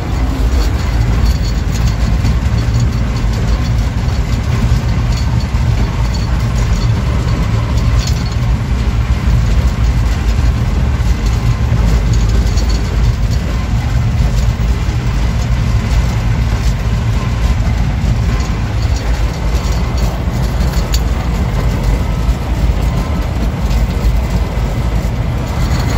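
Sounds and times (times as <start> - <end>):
diesel engine under load: 0.0 - 25.9
steel tracks clattering: 0.0 - 25.9.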